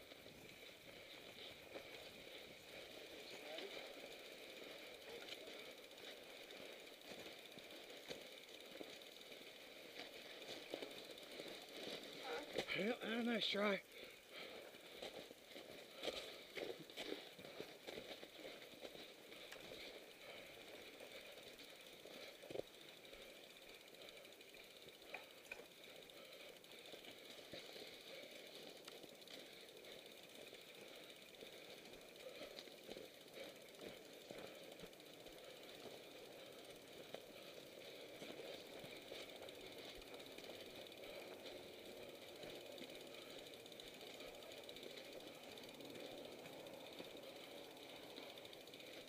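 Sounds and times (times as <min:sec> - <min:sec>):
bike ticking and rattling: 0:00.0 - 0:49.0.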